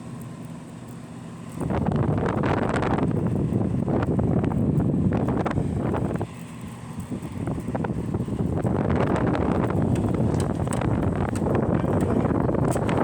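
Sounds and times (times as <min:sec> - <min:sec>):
air conditioner blowing: 0:00.0 - 0:13.0.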